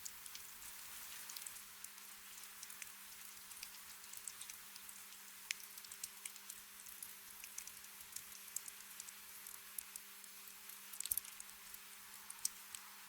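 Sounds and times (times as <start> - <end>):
rain drips and ticks: 0.0 - 13.0
soft rain hiss: 0.0 - 13.0.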